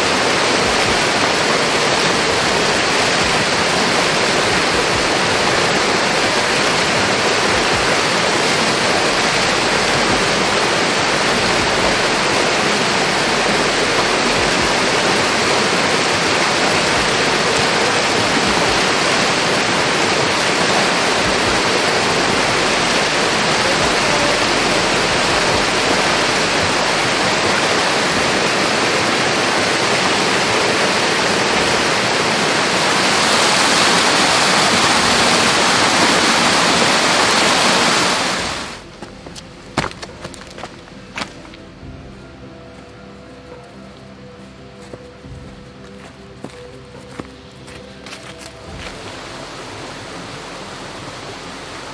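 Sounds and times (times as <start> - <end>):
water rushing: 0.0 - 42.5, 44.6 - 51.9.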